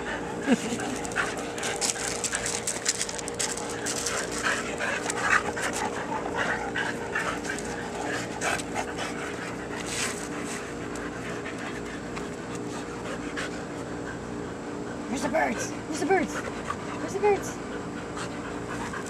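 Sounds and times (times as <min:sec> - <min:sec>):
dogs panting: 0:00.0 - 0:19.0.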